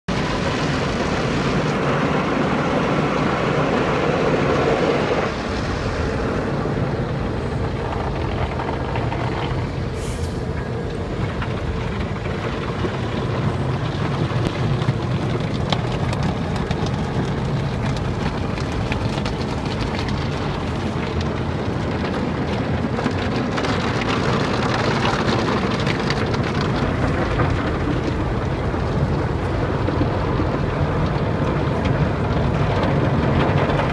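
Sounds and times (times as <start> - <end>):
car wash spraying water: 0.1 - 33.9.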